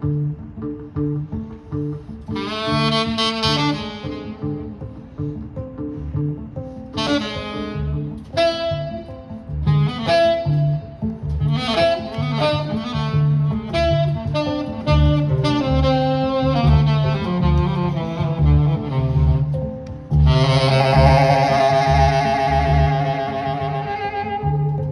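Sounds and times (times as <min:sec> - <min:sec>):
upright bass walking: 0:00.0 - 0:24.9
saxophone melody: 0:02.3 - 0:06.1, 0:06.8 - 0:24.9.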